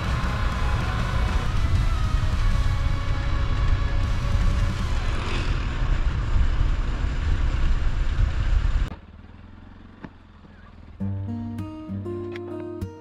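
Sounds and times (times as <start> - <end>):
motorcycle engine rumble: 0.0 - 12.8.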